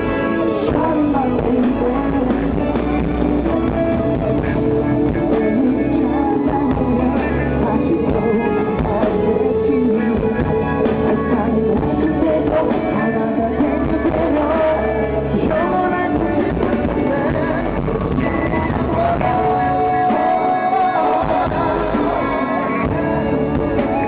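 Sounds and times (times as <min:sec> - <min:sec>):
live pop concert music: 0:00.0 - 0:24.0
person singing over a band: 0:00.0 - 0:24.0.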